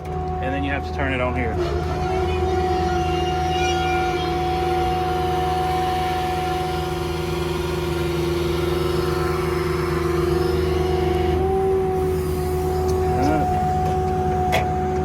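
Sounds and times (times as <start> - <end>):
air compressor whining: 0.0 - 15.0
diesel engine running: 0.0 - 15.0.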